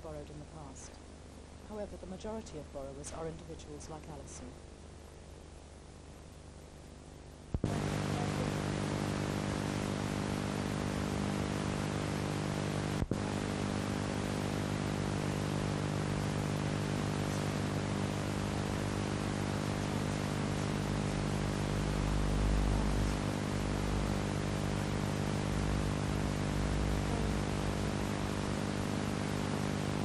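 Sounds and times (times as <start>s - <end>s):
electrical hum: 0.0s - 30.0s
tape hiss: 0.0s - 30.0s.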